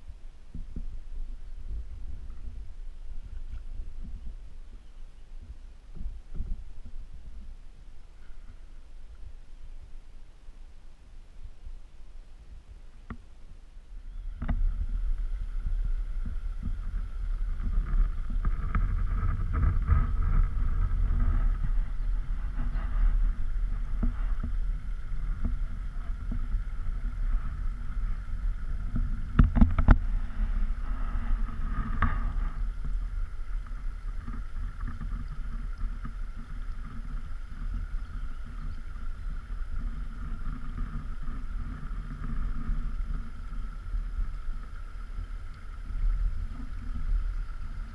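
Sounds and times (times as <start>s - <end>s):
kayak moving across water: 0.0s - 47.9s
wind buffeting microphone: 0.0s - 47.9s.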